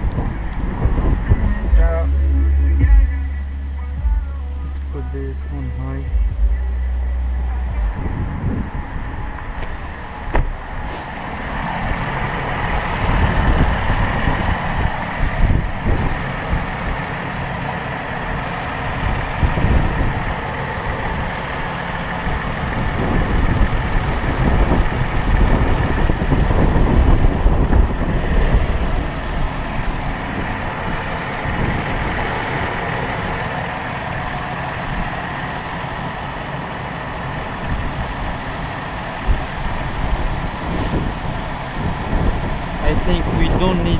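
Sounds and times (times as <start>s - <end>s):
wind buffeting microphone: 0.0s - 3.2s, 7.6s - 17.4s, 18.2s - 36.3s, 37.3s - 43.9s
car engine idling: 0.0s - 43.9s.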